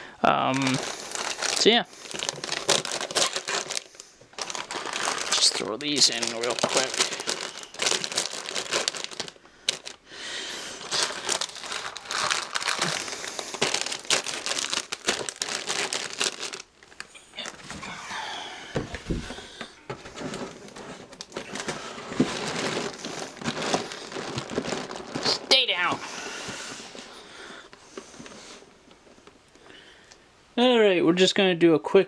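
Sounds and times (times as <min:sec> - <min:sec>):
plastic bags crinkling: 0:00.2 - 0:17.9, 0:18.9 - 0:29.4.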